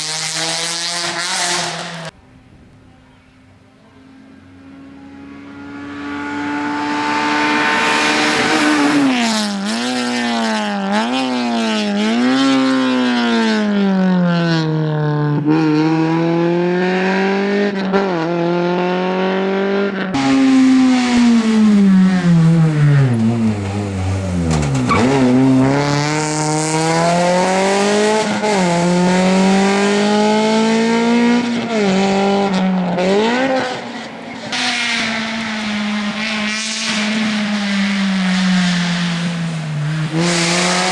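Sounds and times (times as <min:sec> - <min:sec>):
rally car engine revving: 0:00.0 - 0:02.2, 0:04.6 - 0:40.9.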